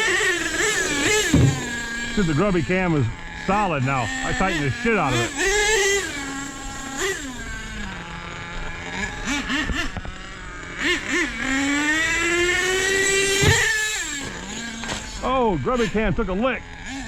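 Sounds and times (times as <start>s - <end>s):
model engine idling and revving: 0.0s - 17.0s.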